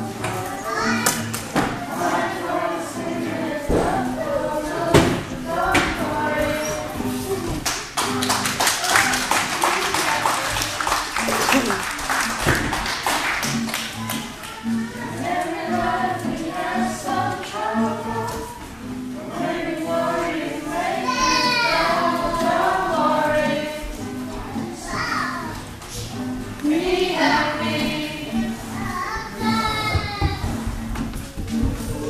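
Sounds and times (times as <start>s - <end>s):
acoustic guitar strumming: 0.0s - 9.6s, 11.5s - 32.0s
adults and children singing: 0.0s - 32.0s.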